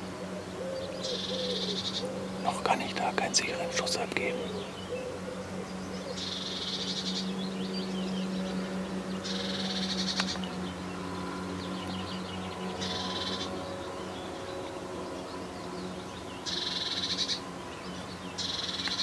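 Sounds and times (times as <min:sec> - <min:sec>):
birds chirping: 0:00.0 - 0:19.0
low hum: 0:00.0 - 0:19.0.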